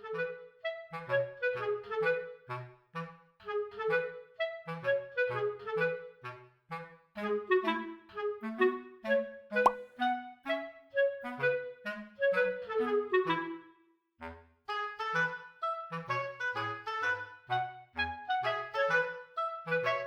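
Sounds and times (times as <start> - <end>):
staccato clarinet melody: 0.0 - 13.6, 14.2 - 20.0.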